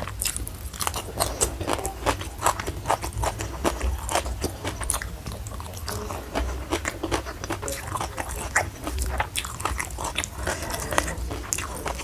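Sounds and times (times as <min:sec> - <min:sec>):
chewing crunchy food: 0:00.0 - 0:12.0.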